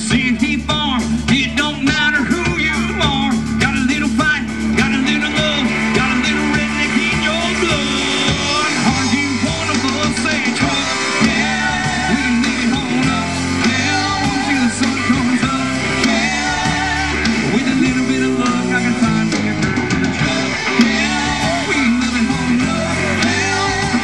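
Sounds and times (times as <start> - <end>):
bass guitar: 0.0 - 24.0
drum kit: 0.0 - 24.0
electric guitar: 0.0 - 24.0
man singing: 0.0 - 24.0.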